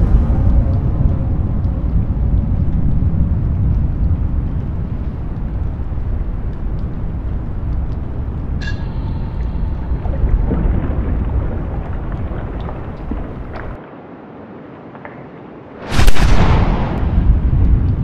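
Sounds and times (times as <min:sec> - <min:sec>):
deep steady rumble: 0:00.0 - 0:13.8, 0:16.1 - 0:18.0.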